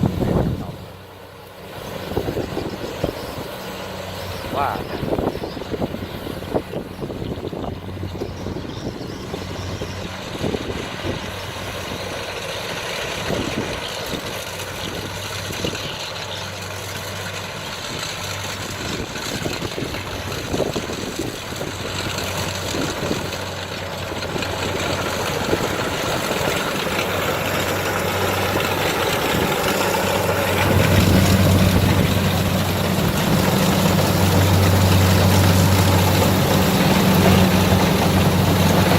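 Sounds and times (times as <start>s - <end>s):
combine harvester engine and machinery: 0.0s - 38.9s.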